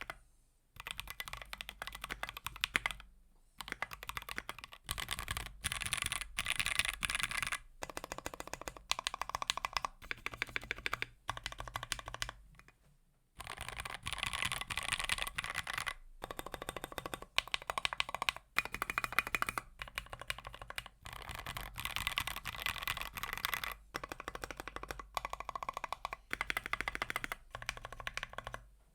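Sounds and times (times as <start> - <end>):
fast typing on mechanical keyboard: 0.8 - 12.7, 13.4 - 28.7.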